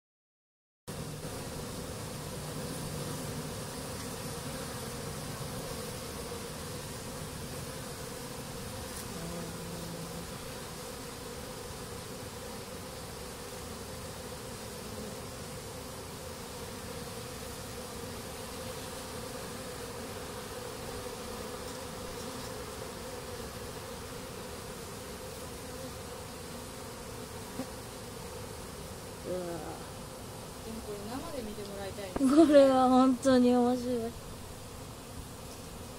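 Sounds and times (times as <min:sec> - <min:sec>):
honeybees buzzing: 0:00.9 - 0:35.9.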